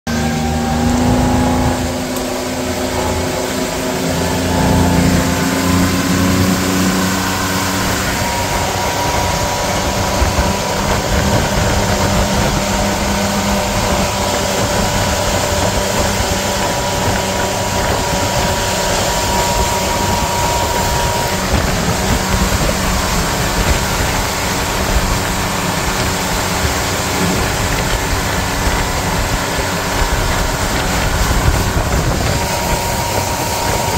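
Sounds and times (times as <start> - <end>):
motorboat engine running: 0.1 - 33.9
wind and water rushing along hull: 0.1 - 33.9.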